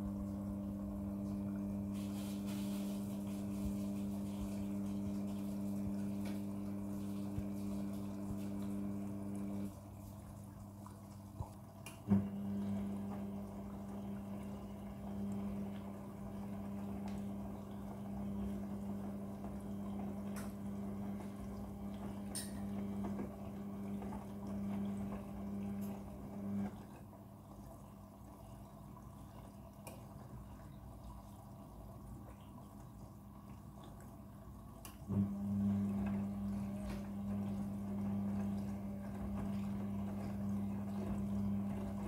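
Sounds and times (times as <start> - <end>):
washing machine humming: 0.0 - 42.0.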